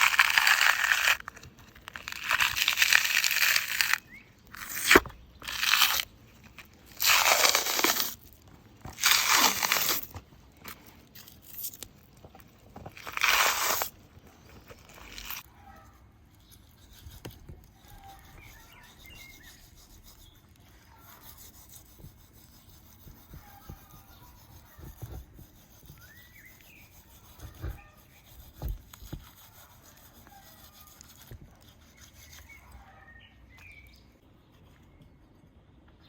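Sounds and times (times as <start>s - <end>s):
knife cutting and scraping meat: 0.0s - 35.2s.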